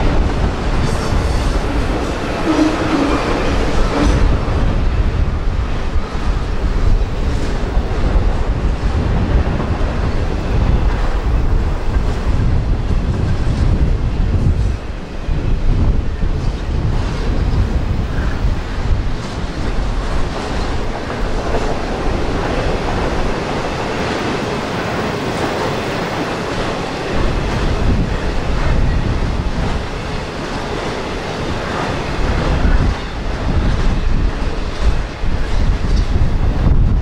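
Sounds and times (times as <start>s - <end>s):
train wheels on track: 0.0s - 37.0s
wind on microphone: 0.0s - 37.0s.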